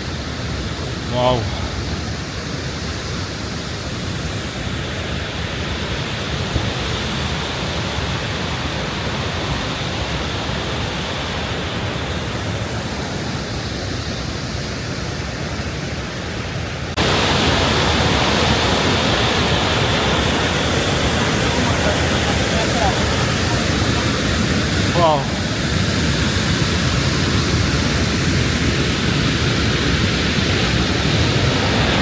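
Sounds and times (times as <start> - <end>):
large waterfall rushing: 0.0 - 32.0.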